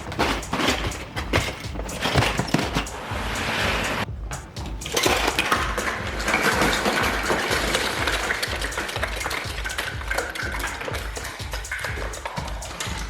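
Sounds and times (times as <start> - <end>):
music with low beat: 0.0 - 13.0.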